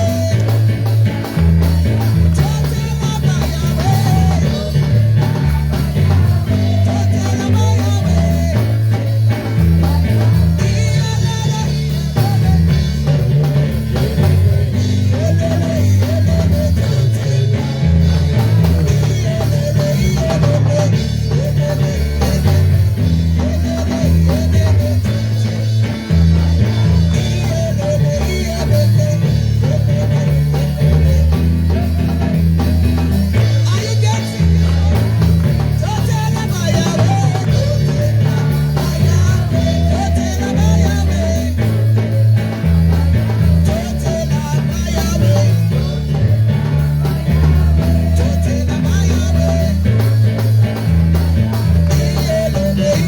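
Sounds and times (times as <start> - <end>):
drum kit: 0.0 - 53.0
electric bass: 0.0 - 53.0
guitar: 0.0 - 53.0
voices singing: 0.0 - 53.0.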